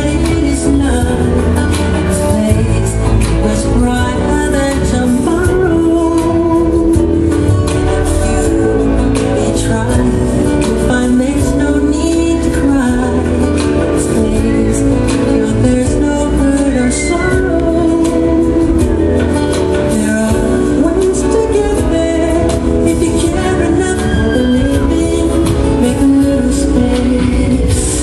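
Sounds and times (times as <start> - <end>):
loud music with singing and beat: 0.0 - 28.0.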